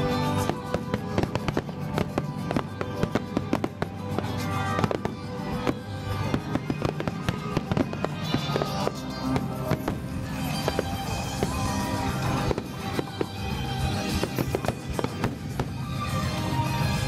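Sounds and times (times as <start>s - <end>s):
music playing: 0.0s - 17.0s
fireworks cracking and popping: 0.2s - 17.0s.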